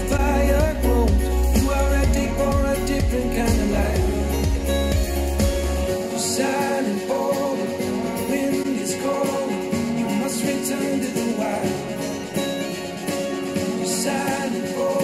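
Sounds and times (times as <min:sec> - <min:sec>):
song with singing and guitar: 0:00.0 - 0:15.0.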